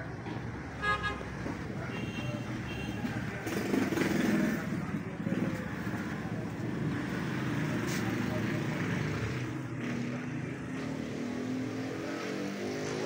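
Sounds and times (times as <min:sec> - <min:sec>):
vehicle engine: 0:00.0 - 0:13.0.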